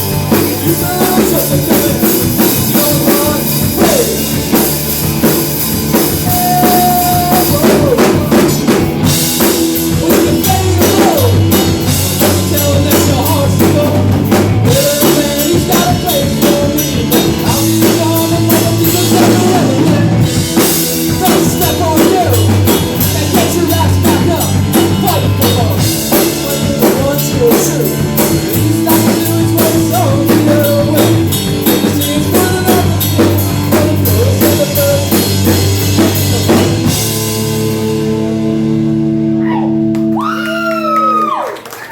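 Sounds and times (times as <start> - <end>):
sustained bass notes: 0.0 - 40.3
drum kit beat: 0.0 - 41.4
rock band playing: 0.0 - 41.9.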